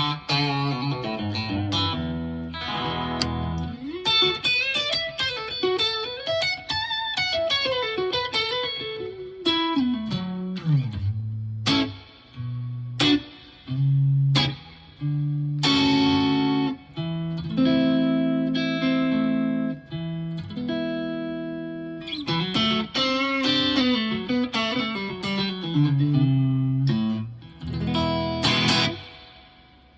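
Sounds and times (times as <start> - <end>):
electric guitar chords and notes: 0.0 - 29.9.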